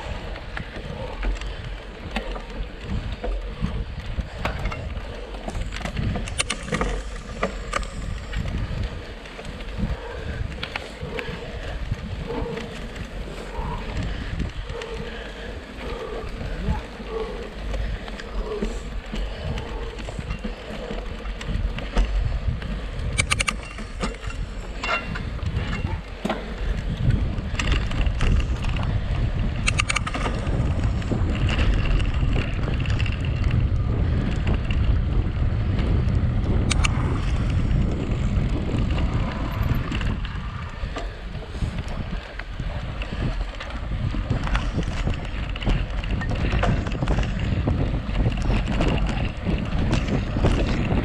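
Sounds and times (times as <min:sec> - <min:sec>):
bike rattles and knocks: 0:00.0 - 0:51.0
wind buffeting microphone: 0:00.0 - 0:51.0.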